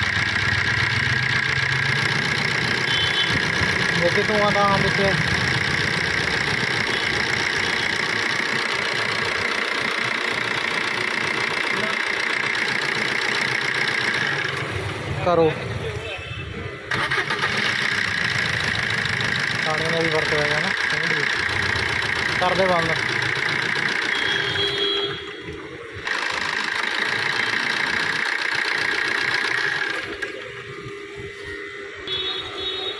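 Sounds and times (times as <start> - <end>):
car engine idling: 0.0 - 15.5, 16.9 - 24.8, 25.4 - 30.7.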